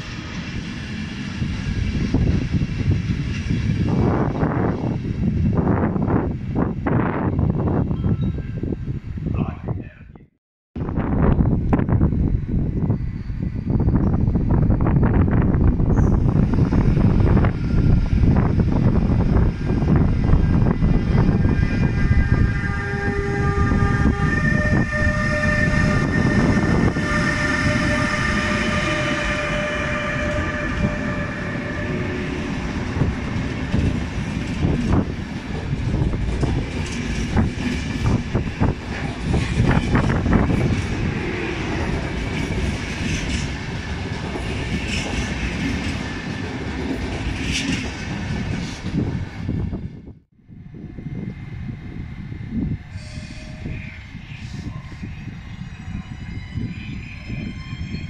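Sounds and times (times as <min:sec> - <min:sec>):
train rumble: 0:00.0 - 0:10.0, 0:10.8 - 0:58.0
electric locomotive traction whine: 0:10.8 - 0:58.0.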